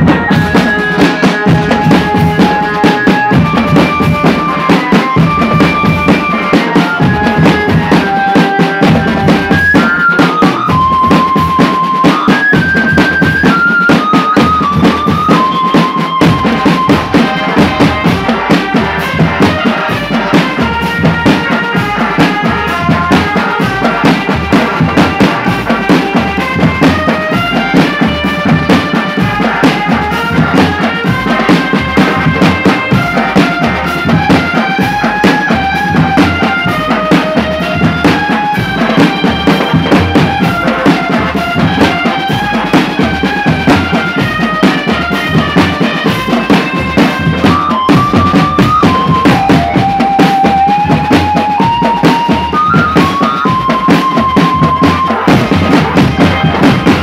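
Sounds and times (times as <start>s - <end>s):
melody of held notes: 0.0s - 57.0s
snare and bass drumming: 0.0s - 57.0s.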